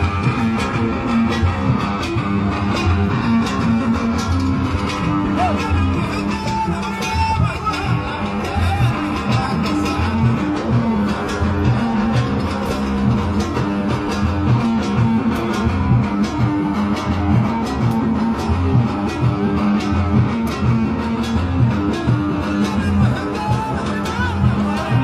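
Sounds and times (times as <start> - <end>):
oud playing: 0.0 - 25.0.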